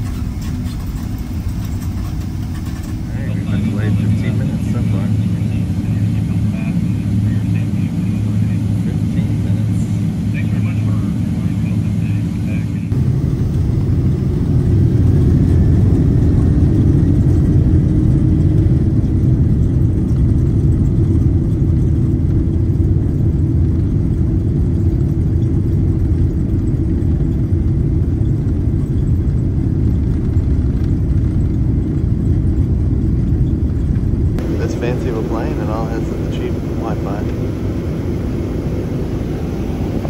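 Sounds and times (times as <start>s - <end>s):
jet cabin engine rumble: 0.0s - 40.0s.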